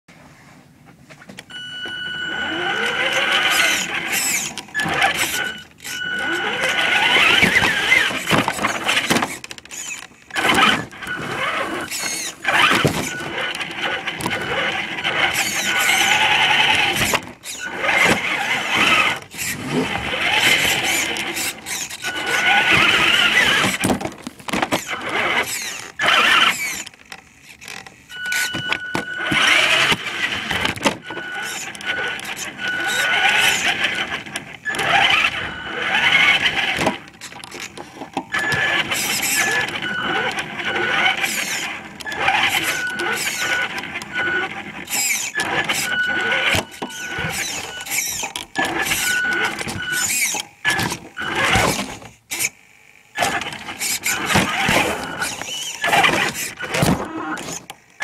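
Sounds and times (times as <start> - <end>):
toy car electric motor whining: 1.5 - 58.0.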